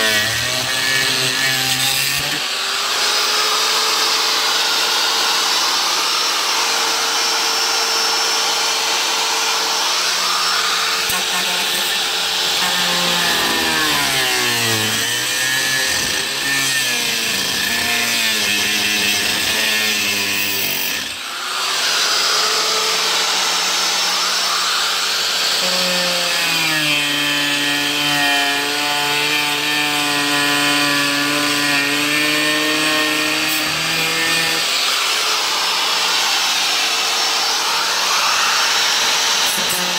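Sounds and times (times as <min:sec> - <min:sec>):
angle grinder cutting plastic panel: 0:00.0 - 0:39.9.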